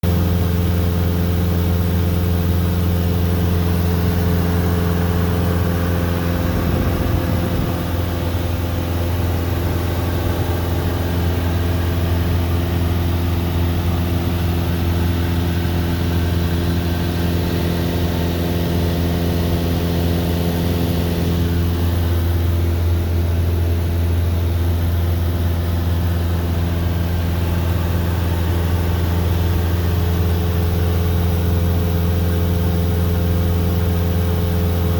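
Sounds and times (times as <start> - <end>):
airplane engine and propeller droning: 0.0 - 34.9.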